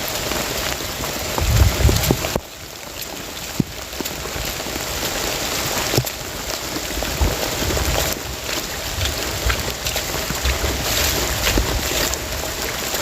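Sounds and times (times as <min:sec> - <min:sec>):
heavy rain pouring: 0:00.0 - 0:13.0
sharp raindrop hits: 0:00.0 - 0:13.0.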